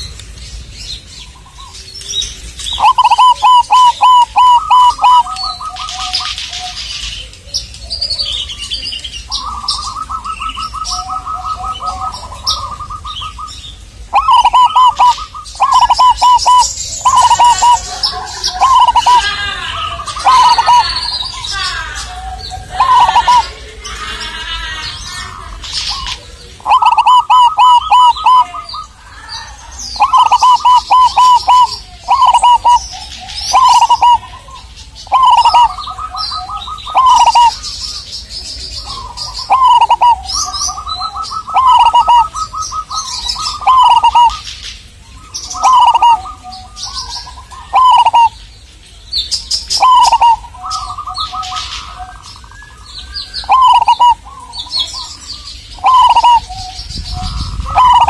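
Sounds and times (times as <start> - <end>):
small birds chirping: 0.0 - 58.0
dove stuttering coos: 2.4 - 44.5, 45.1 - 48.4, 49.8 - 58.0.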